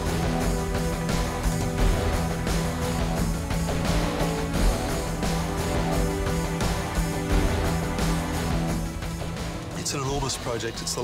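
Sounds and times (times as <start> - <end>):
rock music with electric guitar: 0.0 - 9.8.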